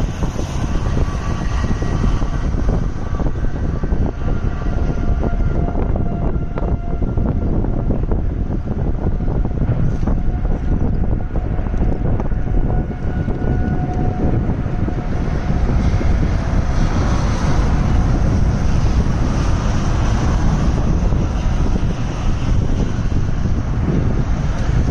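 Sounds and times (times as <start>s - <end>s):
tornado wind buffeting microphone: 0.0s - 24.9s.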